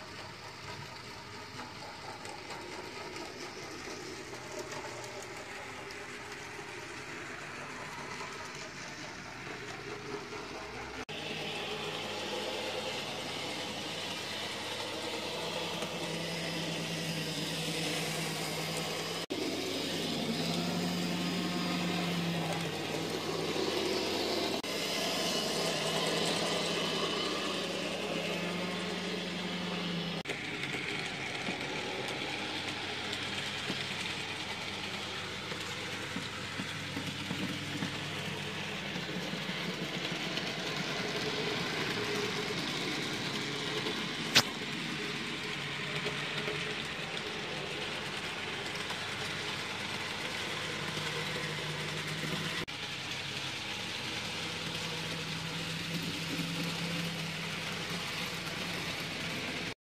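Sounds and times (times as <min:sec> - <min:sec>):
model train motors whirring: 0:00.0 - 0:59.8.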